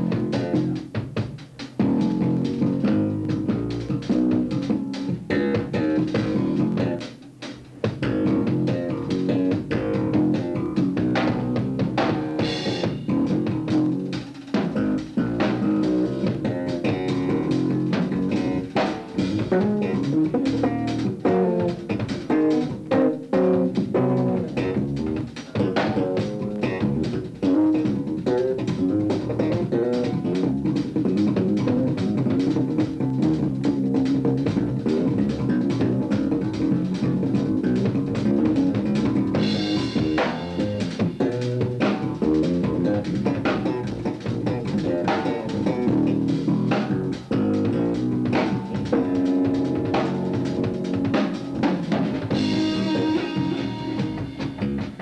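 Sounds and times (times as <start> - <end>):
drum kit and cymbals: 0.0 - 55.0
electric bass guitar: 0.0 - 55.0.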